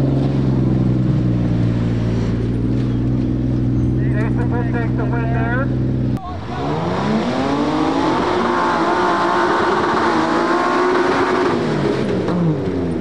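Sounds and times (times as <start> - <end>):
truck engine revving hard: 0.0 - 13.0.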